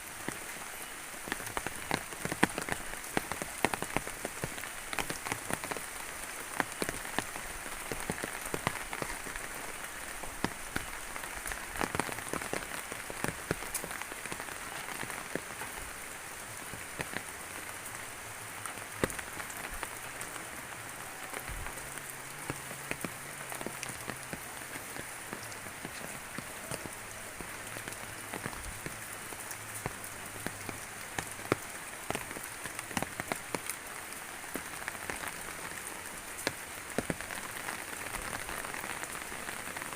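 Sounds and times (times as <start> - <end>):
raindrops ticking close by: 0.0 - 39.9
steady rain falling: 0.0 - 39.9.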